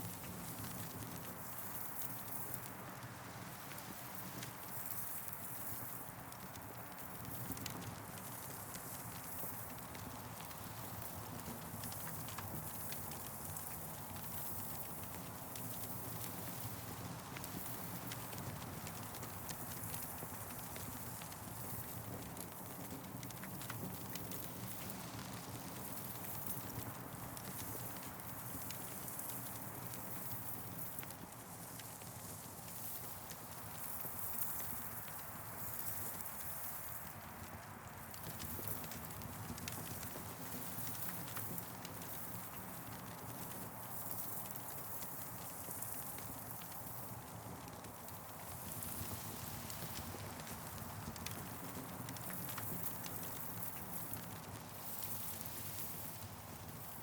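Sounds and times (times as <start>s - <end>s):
campfire crackling: 6.4s - 57.0s.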